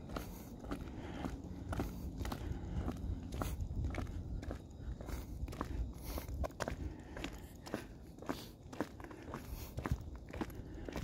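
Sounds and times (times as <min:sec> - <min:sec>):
footsteps on paved road: 0:00.0 - 0:11.0.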